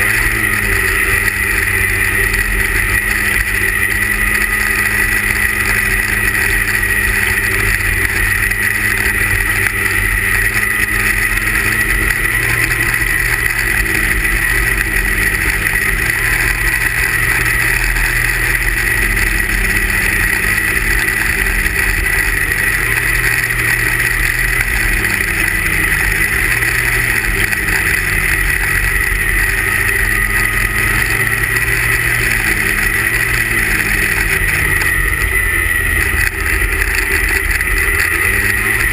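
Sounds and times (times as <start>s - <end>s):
snowmobile engine revving high: 0.0s - 38.9s.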